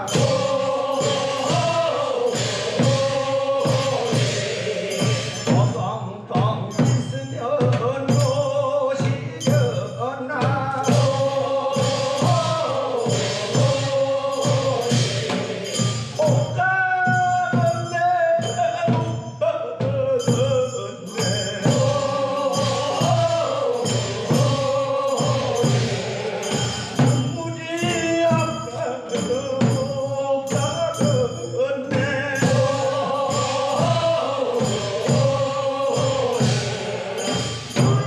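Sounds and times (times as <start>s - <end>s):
handbell strikes: 0.0s - 5.9s, 6.6s - 19.4s, 20.1s - 38.0s
chorus answering: 0.0s - 38.0s
lead singer solo: 0.0s - 38.0s.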